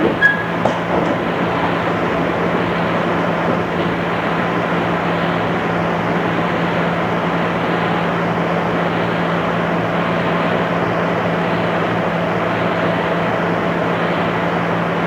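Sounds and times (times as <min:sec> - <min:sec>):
train wheels and motors rumbling: 0:00.0 - 0:15.0.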